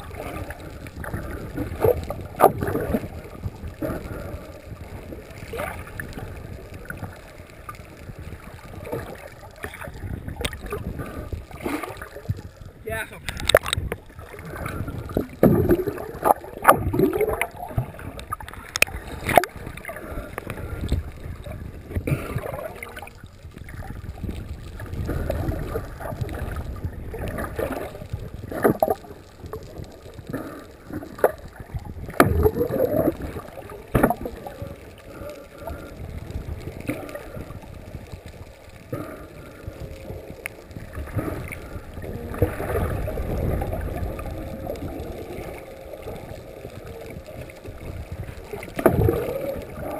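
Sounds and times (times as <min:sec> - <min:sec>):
low rumbling swells and gurgling: 0:00.0 - 0:49.9
muffled underwater water noise: 0:00.0 - 0:49.9.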